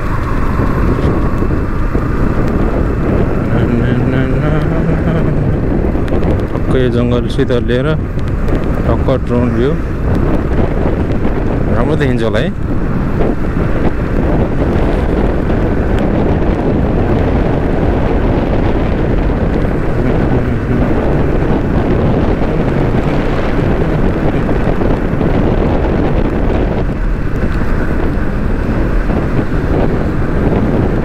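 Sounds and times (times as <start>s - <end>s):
motorcycle noise: 0.0s - 31.0s
wind rush on microphone: 0.0s - 31.0s.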